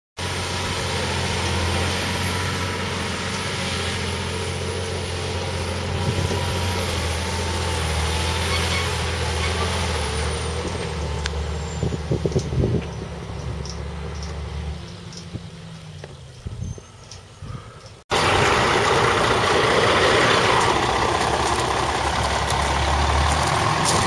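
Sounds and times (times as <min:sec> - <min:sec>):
truck diesel engine under load: 0:00.2 - 0:24.0.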